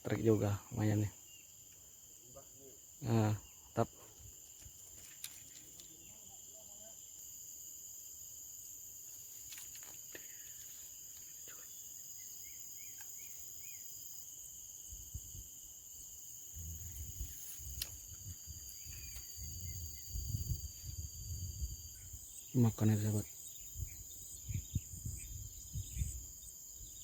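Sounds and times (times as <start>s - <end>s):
insect chorus: 0.0s - 27.0s.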